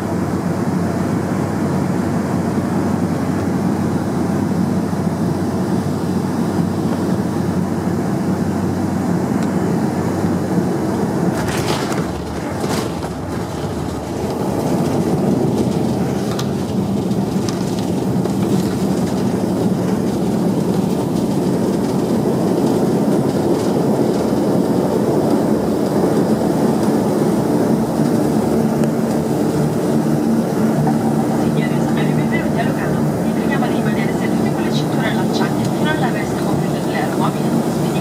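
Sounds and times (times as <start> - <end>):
propeller low hum: 0.0 - 38.0
wheels rumbling on runway: 0.0 - 38.0.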